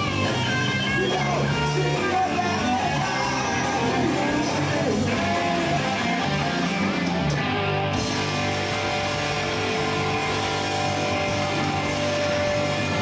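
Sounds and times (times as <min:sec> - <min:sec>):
electric guitars: 0:00.0 - 0:13.0
live rock band playing: 0:00.0 - 0:13.0.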